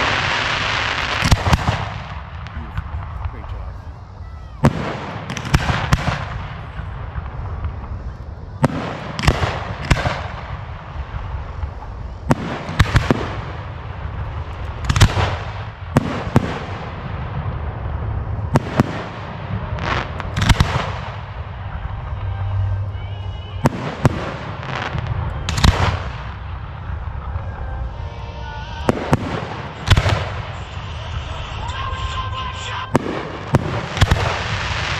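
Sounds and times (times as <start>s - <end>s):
crackling rumble: 0.0s - 34.9s
fireworks bangs: 0.0s - 34.9s.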